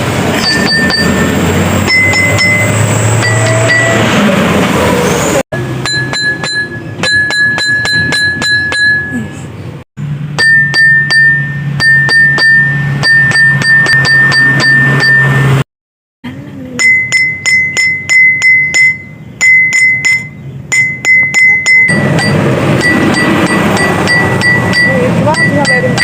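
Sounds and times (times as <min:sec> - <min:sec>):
drinking glass tapped ringing: 0:00.4 - 0:04.1, 0:05.6 - 0:09.3, 0:10.4 - 0:15.6, 0:16.8 - 0:26.0.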